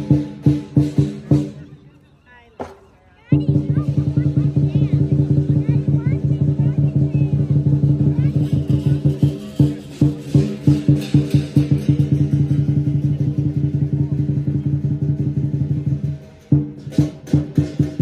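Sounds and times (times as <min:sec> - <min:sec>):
lion dance drum beating: 0:00.0 - 0:18.0
cymbals crashing: 0:03.4 - 0:18.0.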